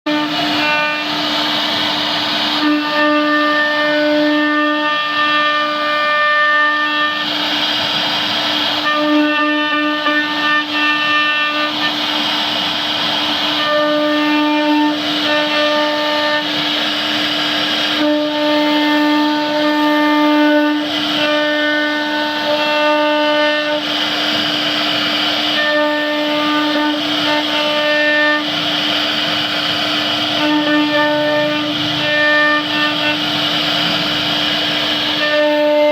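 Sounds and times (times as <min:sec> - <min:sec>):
bit cutting wood hiss: 0:00.1 - 0:35.9
router spindle whining: 0:00.1 - 0:35.9.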